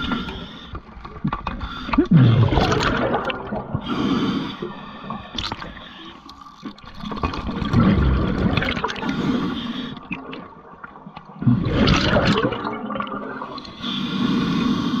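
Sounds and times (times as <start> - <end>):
underwater bubbling and gurgling: 0.0 - 15.0.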